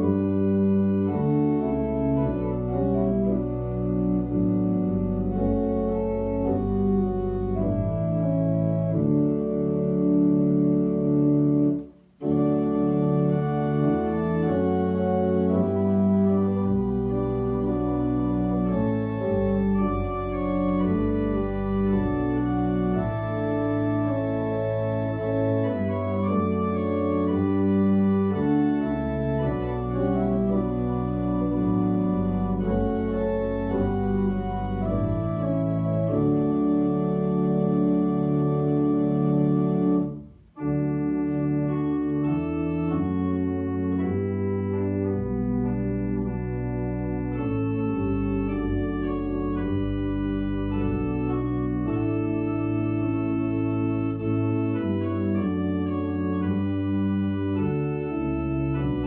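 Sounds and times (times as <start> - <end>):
organ playing a hymn: 0.0 - 59.0.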